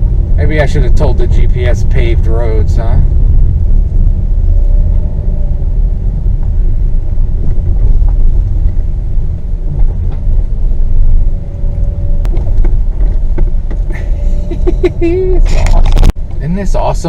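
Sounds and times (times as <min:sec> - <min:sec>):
car rumbling over dirt trail: 0:00.0 - 0:17.0.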